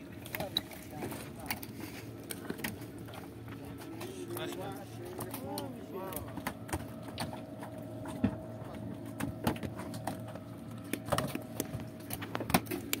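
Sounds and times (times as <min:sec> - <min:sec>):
faint steady hum: 0:00.0 - 0:13.0
fish knocking on wooden boats: 0:02.3 - 0:13.0.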